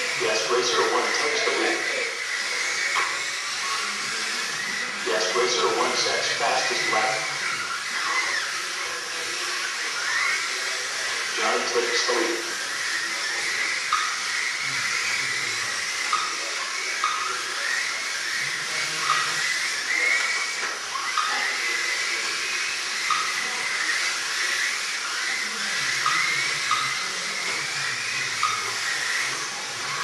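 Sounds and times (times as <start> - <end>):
small electric motors whining: 0.0 - 30.0.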